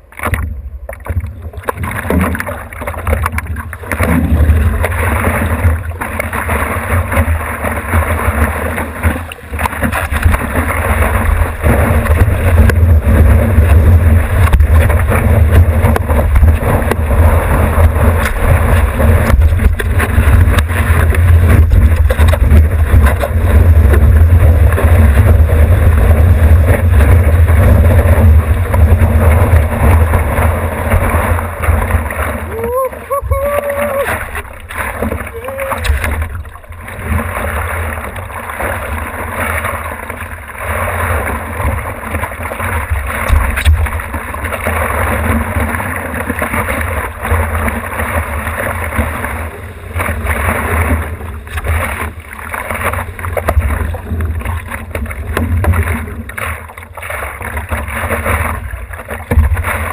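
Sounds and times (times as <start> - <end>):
whitewater rushing: 1.6 - 59.9.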